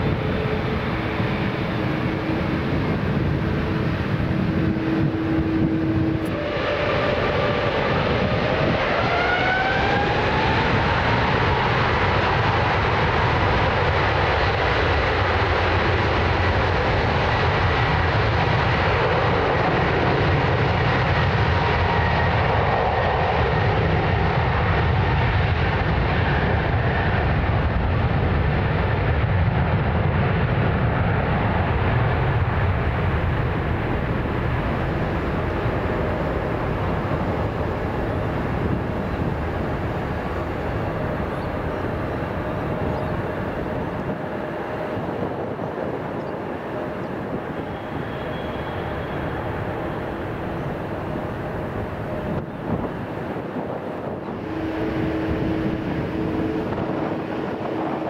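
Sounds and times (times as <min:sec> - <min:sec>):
heavy engine rumble: 0:00.0 - 0:58.0
jet engine whine: 0:00.0 - 0:58.0.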